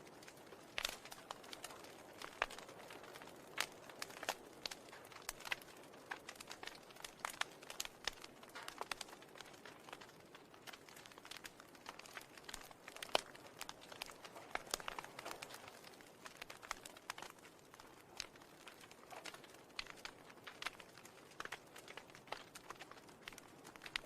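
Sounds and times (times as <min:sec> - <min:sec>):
soft crackling clicks: 0:00.0 - 0:24.0.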